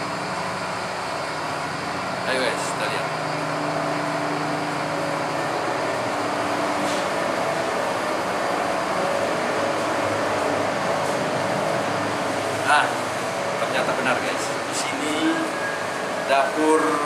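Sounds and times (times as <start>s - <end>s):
ship machinery and ventilation drone: 0.0s - 17.0s.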